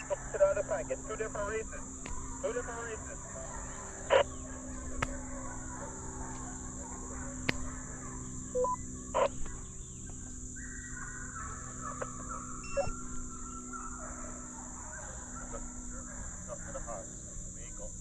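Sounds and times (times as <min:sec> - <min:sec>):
distant hounds baying: 0:00.0 - 0:18.0
high insect drone: 0:00.0 - 0:18.0.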